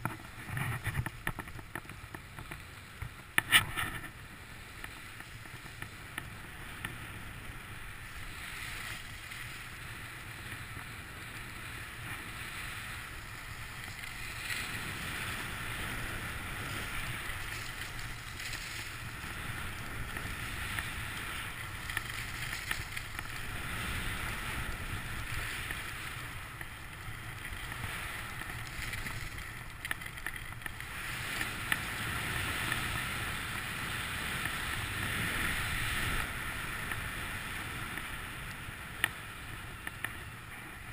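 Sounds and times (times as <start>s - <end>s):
skis sliding over snow: 0.0s - 40.9s
wind rumble on microphone: 0.0s - 40.9s.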